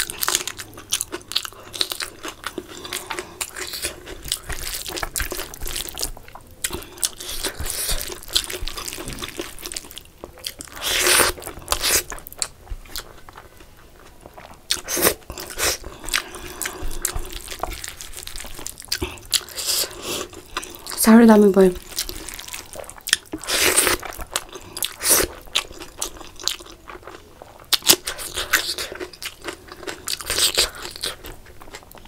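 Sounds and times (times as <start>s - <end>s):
wet chewing sounds: 0.0s - 32.0s.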